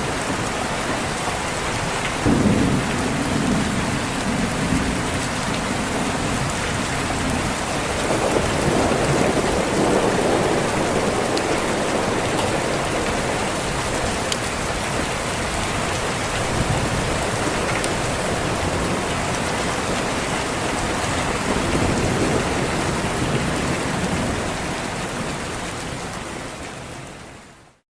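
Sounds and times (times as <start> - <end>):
heavy rain on a window: 0.0 - 27.8
thunder rolling: 2.2 - 25.6.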